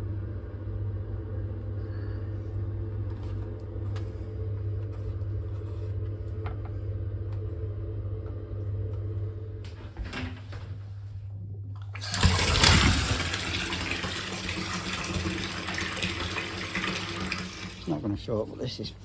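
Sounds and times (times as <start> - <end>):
boiler pump humming: 0.0 - 19.0.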